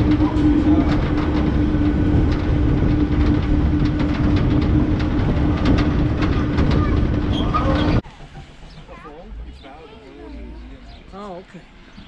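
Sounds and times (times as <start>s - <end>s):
wheels clicking over rails: 0.0s - 10.0s
train rumble and hum: 0.0s - 12.0s.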